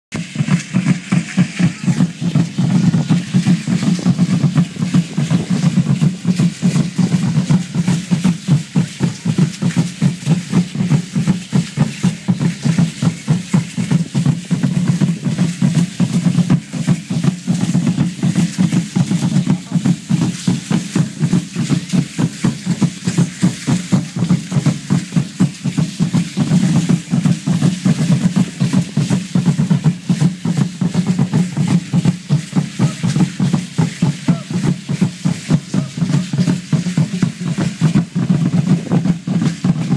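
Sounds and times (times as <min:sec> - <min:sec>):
large drum beating fast: 0:00.1 - 0:39.9.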